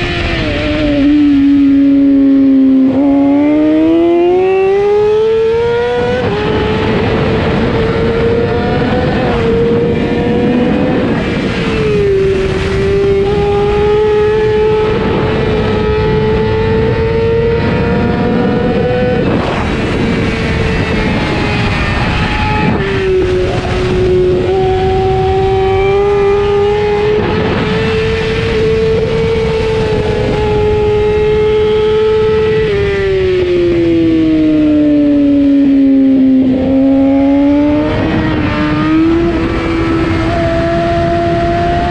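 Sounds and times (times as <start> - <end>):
motorcycle engine revving high: 0.0 - 41.9
wind rush over microphone: 0.0 - 41.9.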